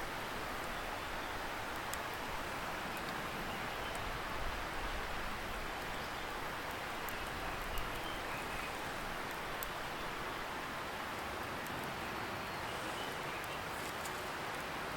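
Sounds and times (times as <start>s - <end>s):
campfire crackling: 0.0s - 14.9s
distant river rushing: 0.0s - 14.9s.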